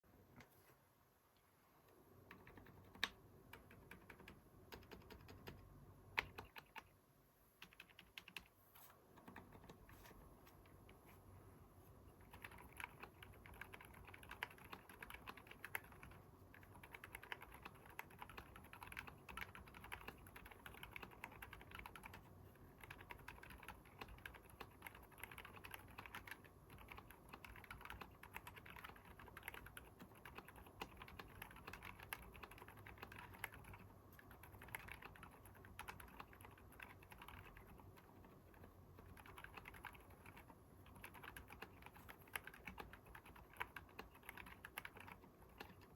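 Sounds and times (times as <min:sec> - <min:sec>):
quiet keyboard typing: 0:01.8 - 0:45.9.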